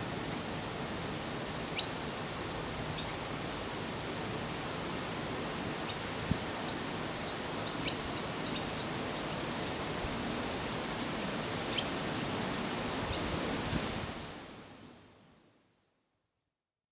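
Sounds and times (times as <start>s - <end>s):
outdoor background hiss: 0.0s - 16.7s.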